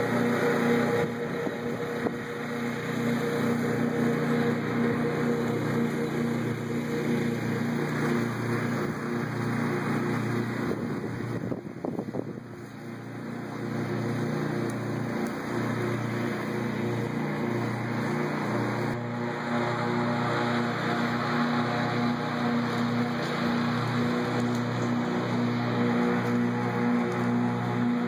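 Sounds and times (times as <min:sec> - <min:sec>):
riding lawn mower engine: 0:00.0 - 0:28.0.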